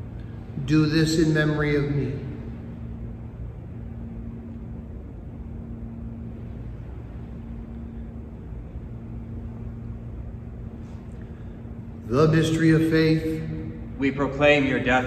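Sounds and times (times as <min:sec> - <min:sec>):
faint held tone: 0:00.0 - 0:15.0
low room hum: 0:00.0 - 0:15.0.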